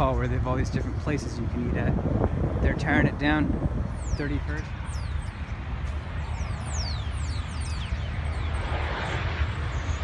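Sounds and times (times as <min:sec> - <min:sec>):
jet airliner rumble: 0:00.0 - 0:10.0.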